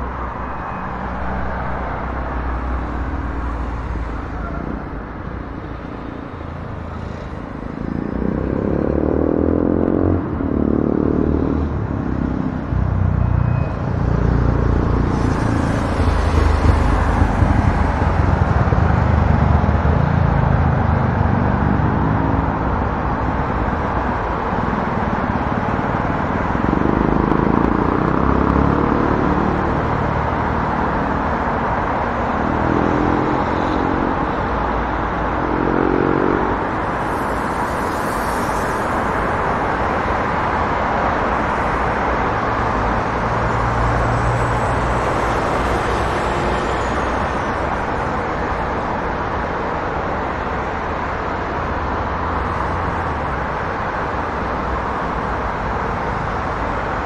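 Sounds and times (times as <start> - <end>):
city street traffic din: 0.0 - 57.0
vehicles passing: 0.0 - 57.0.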